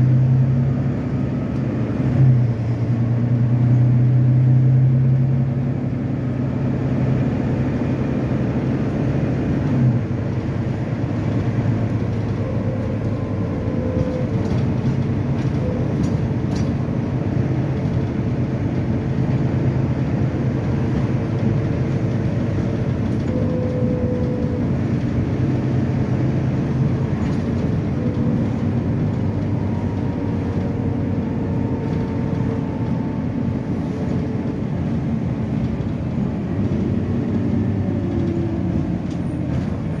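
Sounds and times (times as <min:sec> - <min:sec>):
bus diesel engine running: 0:00.0 - 0:40.0
road noise: 0:00.0 - 0:40.0.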